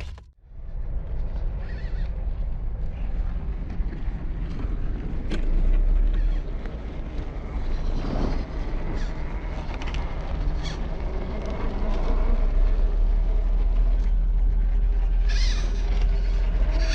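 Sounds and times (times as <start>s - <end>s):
rc truck motor and gears: 1.1s - 16.9s.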